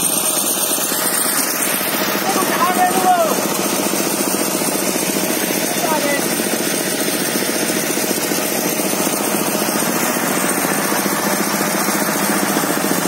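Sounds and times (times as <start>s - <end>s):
engine running with fast pulsing: 0.0s - 13.0s.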